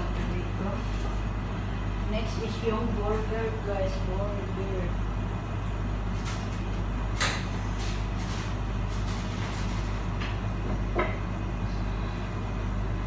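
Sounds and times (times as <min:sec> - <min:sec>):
low appliance hum: 0:00.0 - 0:13.0.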